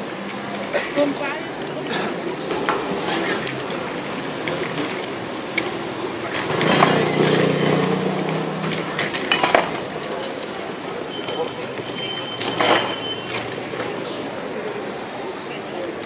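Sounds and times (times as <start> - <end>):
aerosol spray cans hissing: 0.0 - 14.0
spray cans clinking: 0.2 - 14.0.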